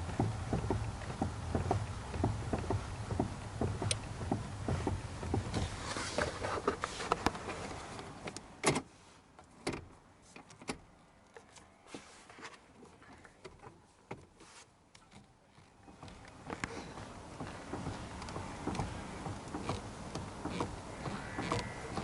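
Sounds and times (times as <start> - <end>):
suspension knocking and clicking: 0.0 - 8.8, 13.0 - 22.0
low road rumble: 0.0 - 11.9, 12.5 - 22.0.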